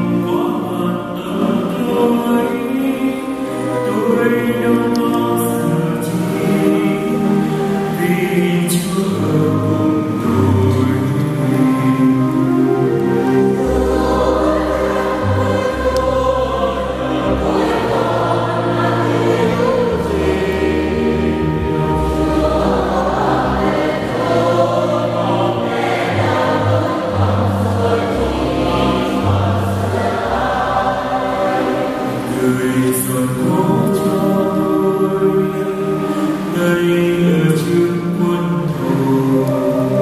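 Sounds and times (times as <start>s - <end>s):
accompaniment of held chords: 0.0s - 40.0s
choir singing a hymn: 0.0s - 40.0s.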